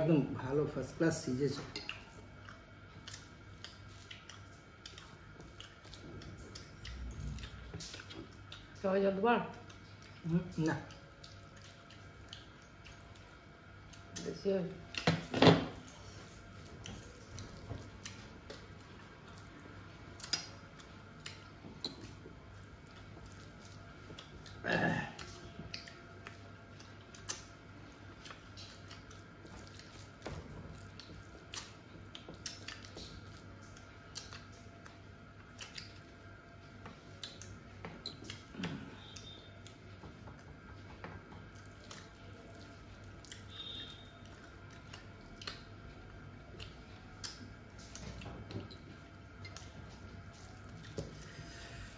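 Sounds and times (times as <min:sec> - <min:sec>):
faint steady hum: 0:00.0 - 0:51.9
person chewing food: 0:01.7 - 0:08.8, 0:09.5 - 0:14.3, 0:15.9 - 0:51.9.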